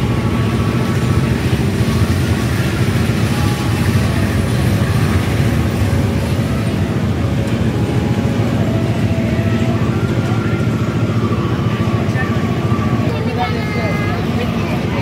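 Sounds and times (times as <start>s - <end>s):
faint music: 0.0s - 15.0s
fairground rides and machinery rumble: 0.0s - 15.0s.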